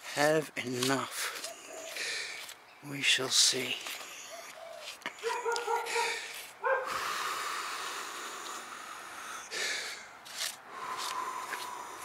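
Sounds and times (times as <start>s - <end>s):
man breathing heavily: 1.1s - 2.6s, 3.8s - 12.0s.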